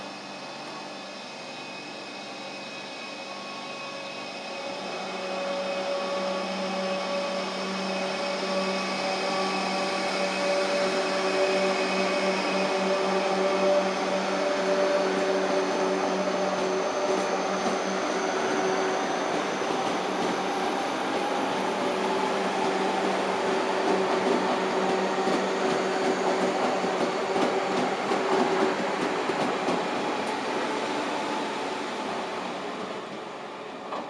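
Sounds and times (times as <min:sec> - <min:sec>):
train wheels rumbling on rails: 0:04.8 - 0:34.0.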